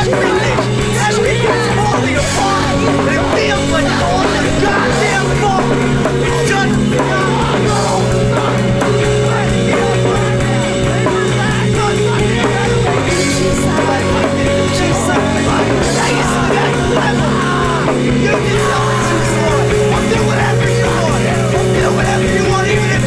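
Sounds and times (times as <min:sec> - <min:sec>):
drum kit: 0:00.0 - 0:23.0
rock band playing: 0:00.0 - 0:23.0.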